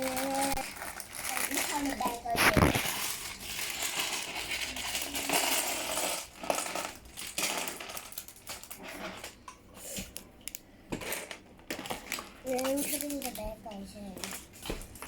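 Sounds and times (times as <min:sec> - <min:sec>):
plastic pieces clattering: 0:00.0 - 0:09.4, 0:10.9 - 0:15.0.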